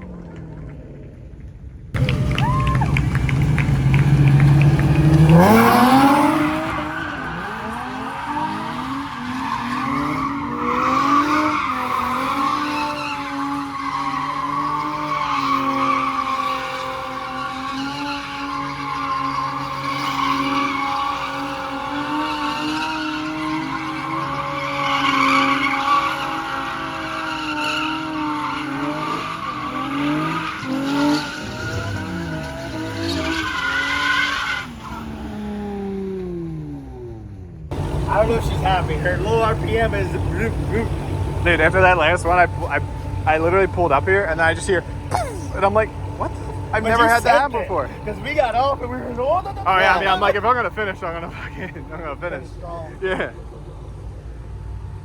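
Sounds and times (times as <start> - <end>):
car engine revving: 0.0 - 55.0
tyres squealing: 2.0 - 35.6, 37.7 - 53.0.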